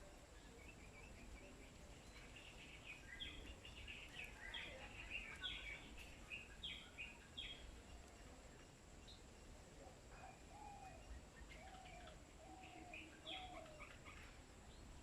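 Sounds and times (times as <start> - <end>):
small birds chirping faintly: 0.0 - 15.0.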